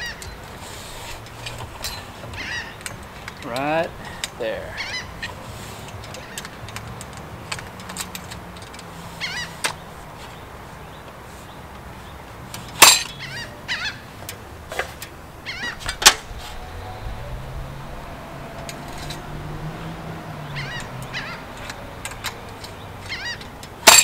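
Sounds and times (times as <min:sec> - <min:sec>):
bird calling: 0:00.0 - 0:06.7, 0:08.9 - 0:14.3, 0:15.4 - 0:24.0.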